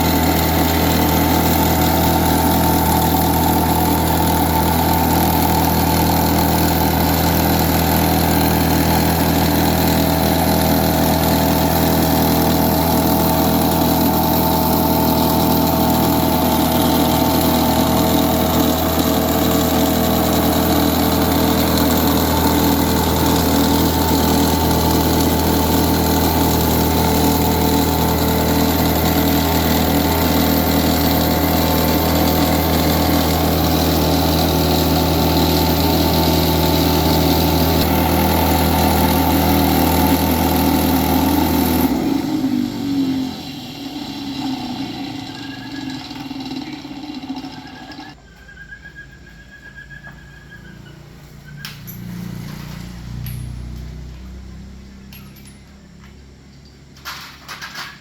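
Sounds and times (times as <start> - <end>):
small engine running: 0.0 - 48.2, 50.1 - 58.0.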